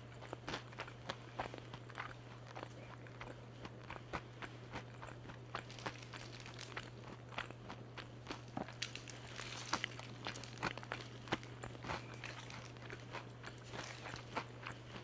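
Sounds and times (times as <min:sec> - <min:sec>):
chewing crispy fried chicken: 0:00.0 - 0:15.0.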